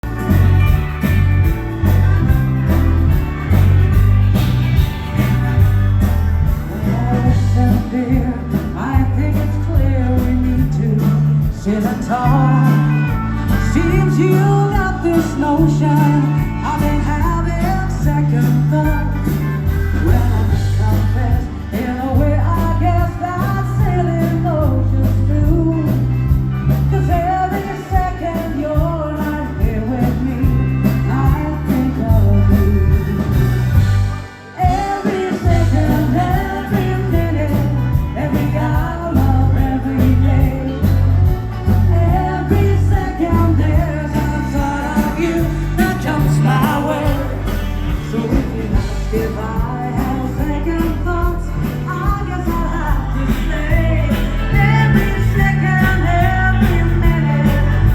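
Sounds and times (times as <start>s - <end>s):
rock and roll band playing: 0.0s - 57.9s
person singing: 6.7s - 33.2s, 34.4s - 57.9s.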